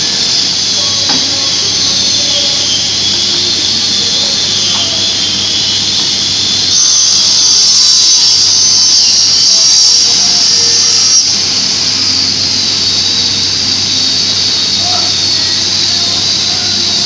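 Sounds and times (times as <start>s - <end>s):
panel saw whining: 0.0s - 17.0s.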